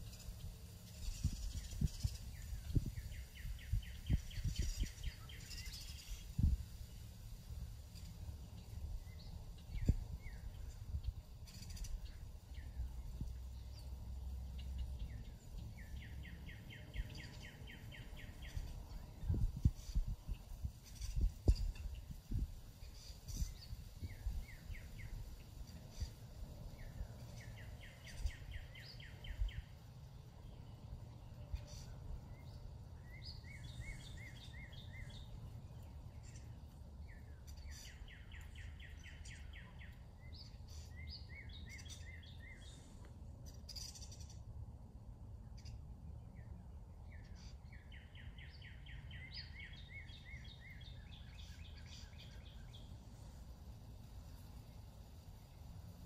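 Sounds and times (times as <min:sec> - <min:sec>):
songbirds singing trilled songs: 0:00.0 - 0:56.0
steady low rumble: 0:00.0 - 0:56.0.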